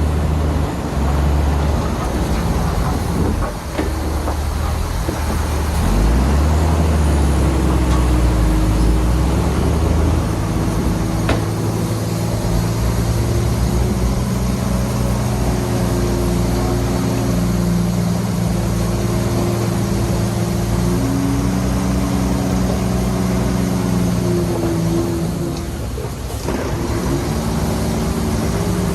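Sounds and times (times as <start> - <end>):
diesel engine revving: 0.0 - 28.9.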